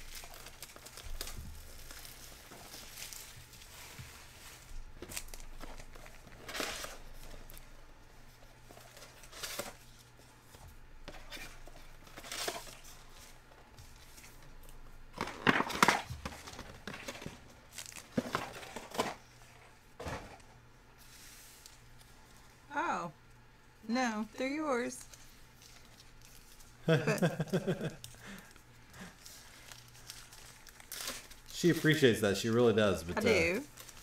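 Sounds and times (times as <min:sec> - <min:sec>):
cardboard and wrappers rustling: 0:00.0 - 0:22.6, 0:24.7 - 0:34.0.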